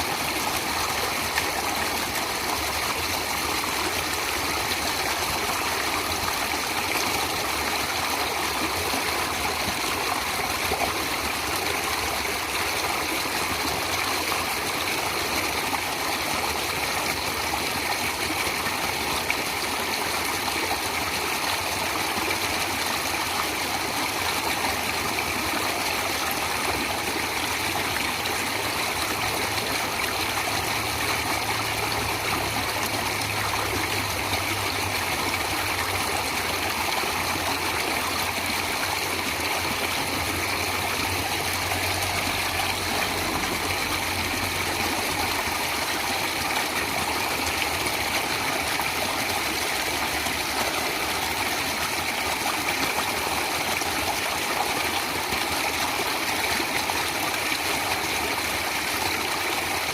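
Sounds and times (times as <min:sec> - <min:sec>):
stream of water flowing: 0:00.0 - 0:59.9.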